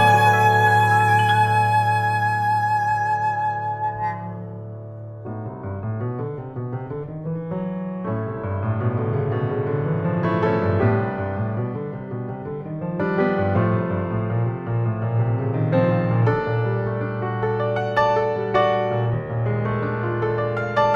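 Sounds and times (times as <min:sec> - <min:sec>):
jazz piano chords: 0:00.0 - 0:20.9.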